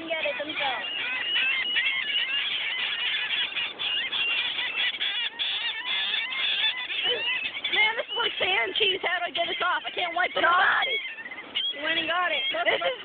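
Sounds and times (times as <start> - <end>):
seagulls squawking: 0.0 - 13.0.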